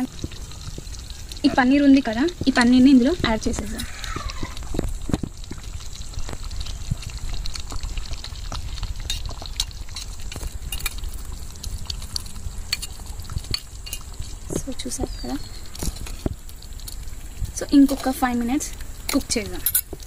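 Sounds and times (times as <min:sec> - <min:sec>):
clicks and pops: 0:00.0 - 0:20.0
gravy simmering in pot: 0:00.0 - 0:20.0.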